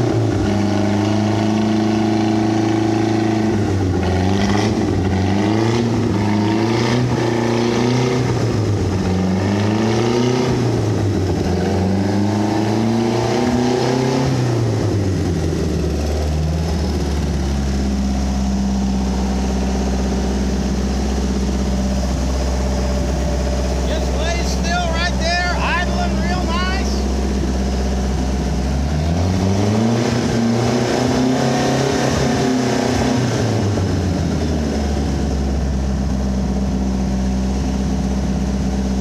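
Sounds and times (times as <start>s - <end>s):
boat engine revving and idling: 0.0s - 39.0s.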